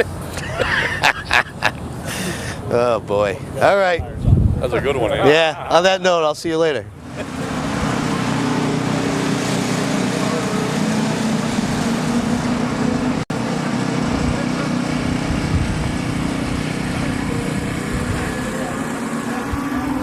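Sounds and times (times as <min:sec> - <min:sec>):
engine running steadily: 0:00.0 - 0:05.8, 0:06.7 - 0:20.0.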